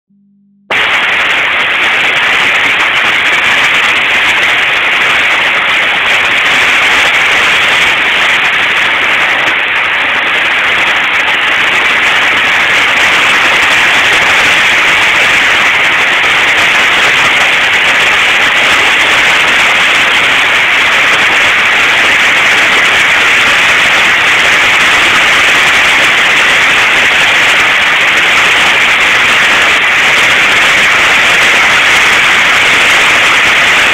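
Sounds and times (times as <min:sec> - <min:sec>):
heavy rain on patio roof: 0:00.7 - 0:33.9.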